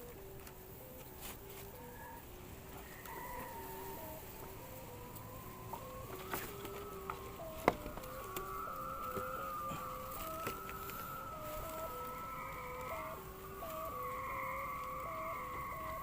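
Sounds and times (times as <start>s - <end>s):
kite hummer droning: 0.0s - 16.0s.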